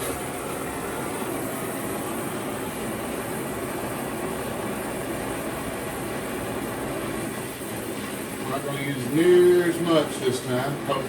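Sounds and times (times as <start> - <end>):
gas torch flame rushing: 0.0 - 11.0.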